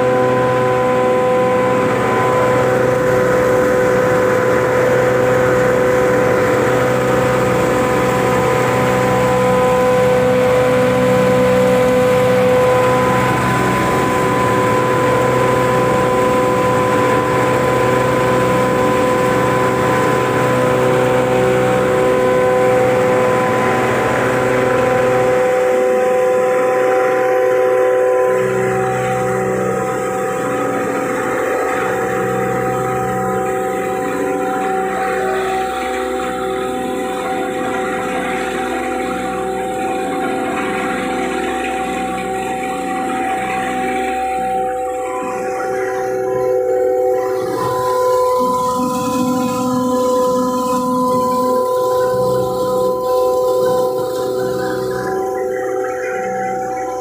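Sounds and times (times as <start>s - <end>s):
grinder machine whining: 0.0s - 57.0s.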